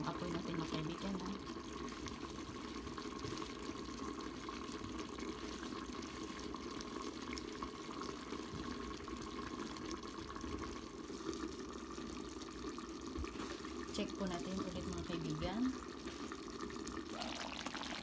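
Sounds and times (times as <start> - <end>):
pan simmering with bubbling: 0.0 - 18.0.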